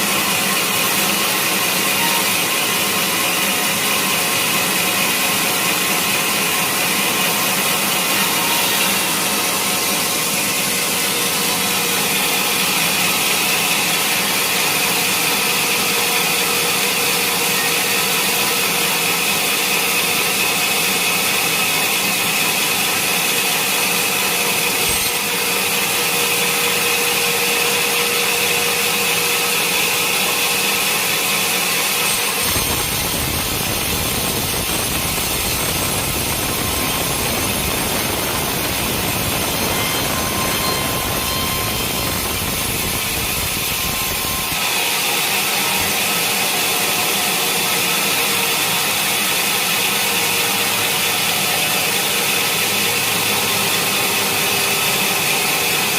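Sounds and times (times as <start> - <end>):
sawmill saw cutting log: 0.0 - 55.9.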